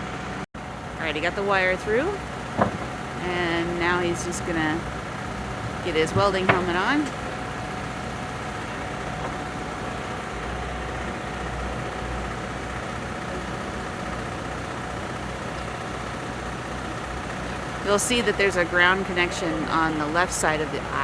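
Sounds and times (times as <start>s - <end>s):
portable generator running: 0.0s - 21.0s.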